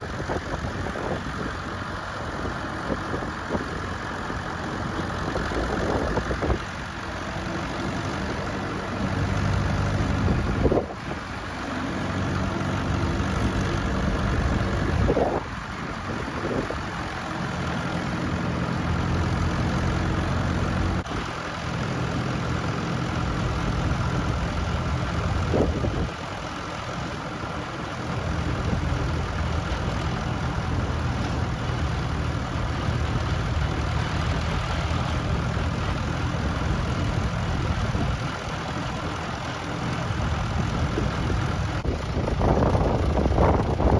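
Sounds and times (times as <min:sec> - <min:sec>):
tractor engines running: 0:00.0 - 0:43.9.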